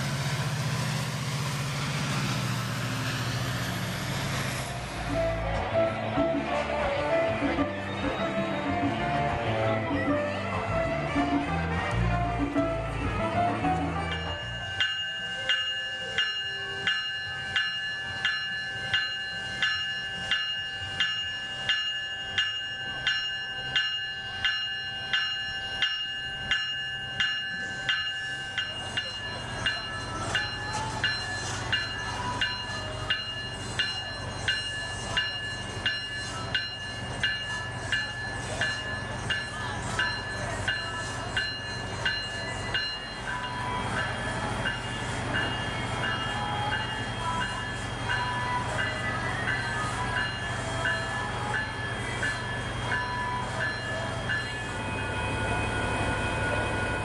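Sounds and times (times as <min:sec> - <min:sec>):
diesel locomotives idling: 0:00.0 - 0:57.0
railroad bell ringing: 0:00.0 - 0:57.0.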